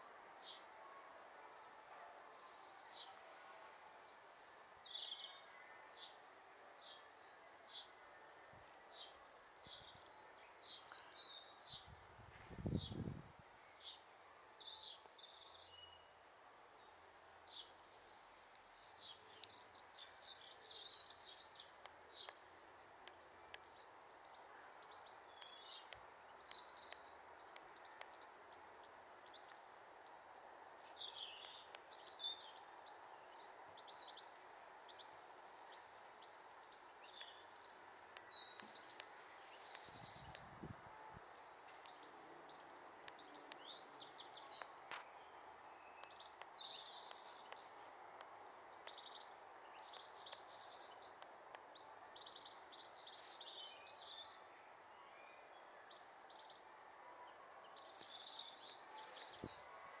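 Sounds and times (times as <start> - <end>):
faint background hiss: 0.0 - 60.0
songbird chirping: 0.0 - 60.0.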